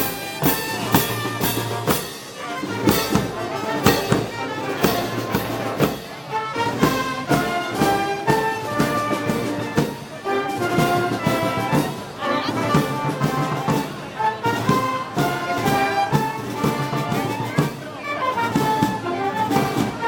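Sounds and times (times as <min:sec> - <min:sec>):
drum strokes: 0:00.0 - 0:17.8
brass instruments playing melody: 0:00.0 - 0:20.0.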